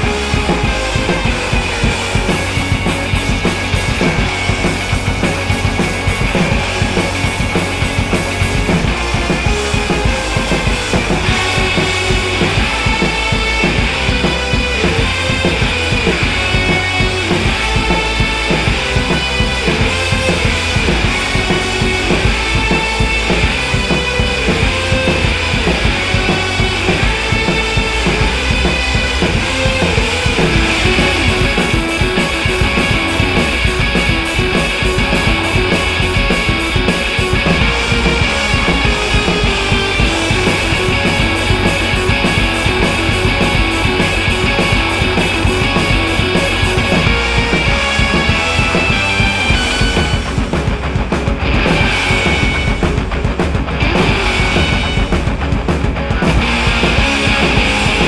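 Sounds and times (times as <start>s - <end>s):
background music with drums: 0.0s - 58.0s.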